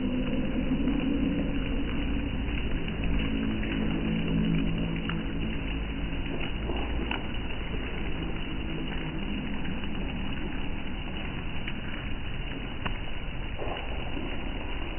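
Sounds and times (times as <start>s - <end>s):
low rumble: 0.0s - 14.9s
rain pattering: 0.0s - 14.9s.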